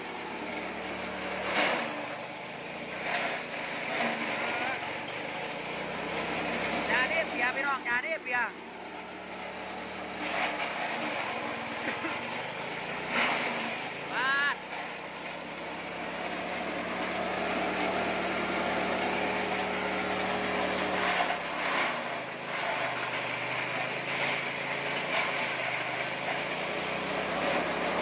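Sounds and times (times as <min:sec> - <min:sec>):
grass stalks being cut: 0:00.0 - 0:28.0
small petrol engine droning: 0:00.0 - 0:28.0.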